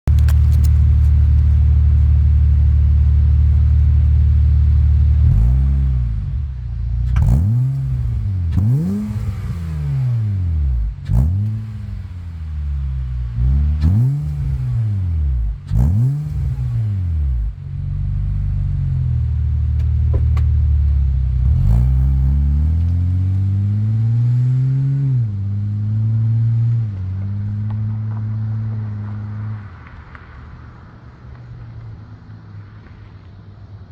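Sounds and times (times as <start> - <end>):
car exhaust idling and revving: 0.0 - 33.9.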